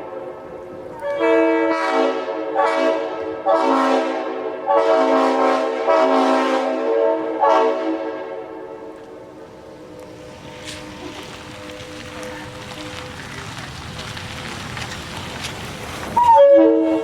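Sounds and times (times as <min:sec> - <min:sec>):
train horn blasts: 0:00.0 - 0:13.1, 0:16.2 - 0:17.0.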